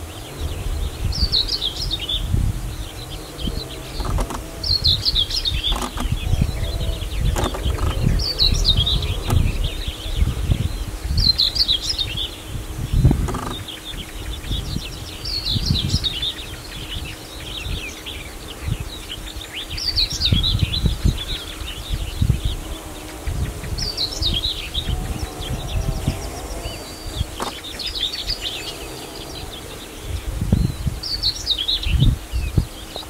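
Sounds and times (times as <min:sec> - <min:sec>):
gusty low rumble: 0:00.0 - 0:32.8
songbird warbling: 0:00.0 - 0:33.0.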